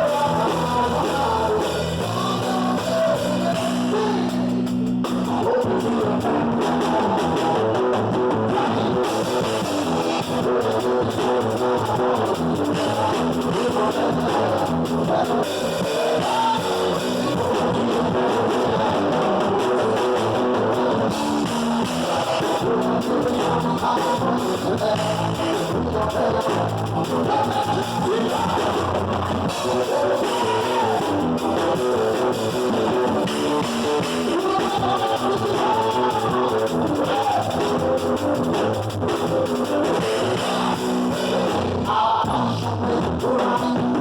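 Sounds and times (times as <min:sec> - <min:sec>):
rock band music: 0:00.0 - 0:44.0.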